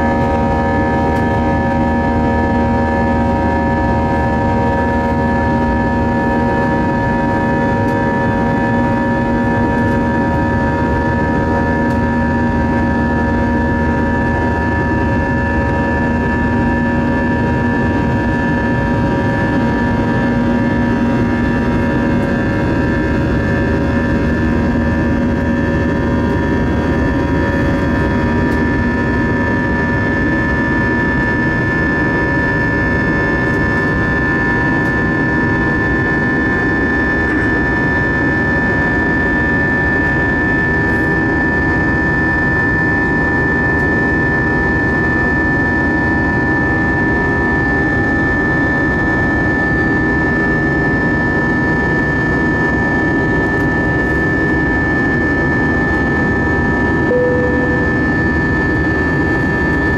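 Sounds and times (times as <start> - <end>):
jet engine roar in cabin: 0.0 - 59.9.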